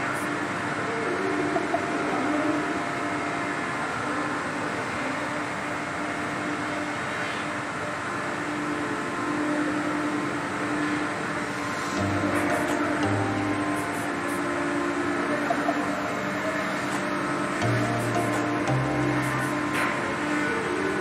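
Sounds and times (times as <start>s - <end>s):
machinery and ventilation drone: 0.0s - 21.0s.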